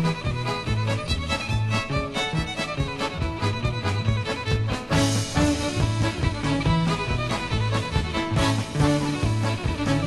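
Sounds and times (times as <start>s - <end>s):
polka band music: 0.0s - 10.0s.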